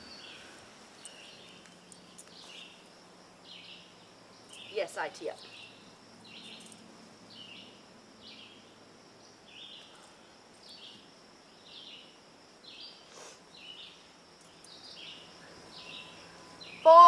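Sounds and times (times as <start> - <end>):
bird chirping: 0.0 - 17.0
high insect drone: 0.0 - 17.0.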